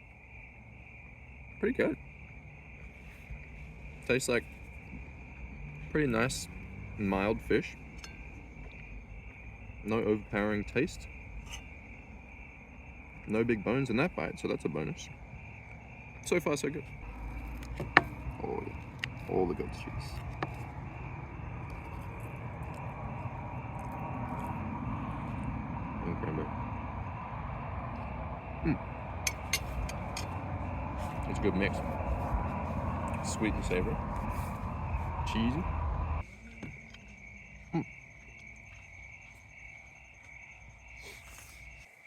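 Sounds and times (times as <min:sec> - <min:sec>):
low outdoor rumble: 0:00.0 - 0:40.9
crickets trilling: 0:00.0 - 0:42.0.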